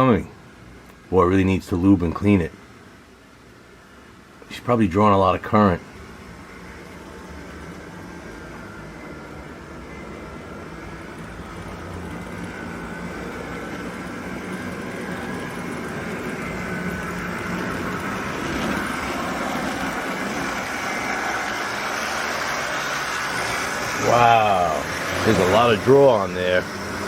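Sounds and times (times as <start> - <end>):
model train motors humming: 0.0 - 27.0
wheels rumbling on track: 4.3 - 27.0.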